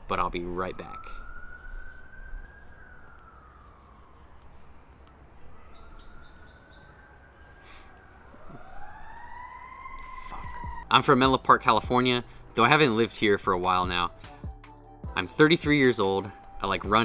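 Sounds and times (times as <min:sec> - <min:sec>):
faint emergency siren wailing: 0:00.0 - 0:14.4, 0:15.2 - 0:17.0.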